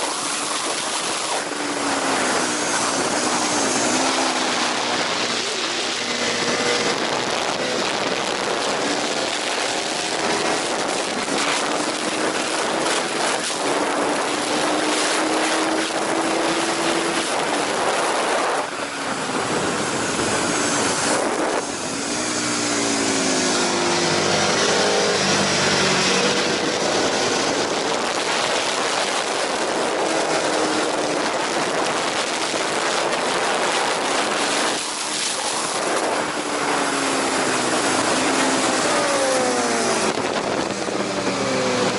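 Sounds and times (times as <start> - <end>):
motorcycle engine at racing speed: 0.0 - 41.9
rush of wind: 0.0 - 41.9.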